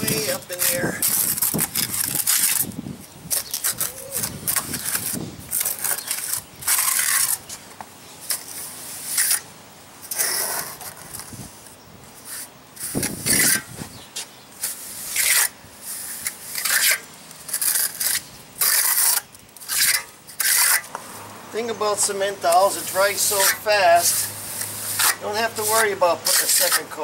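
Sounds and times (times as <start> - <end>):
trowel scraping mortar: 0.0 - 7.6, 8.2 - 11.4, 12.2 - 13.8, 14.6 - 21.0, 22.0 - 27.0.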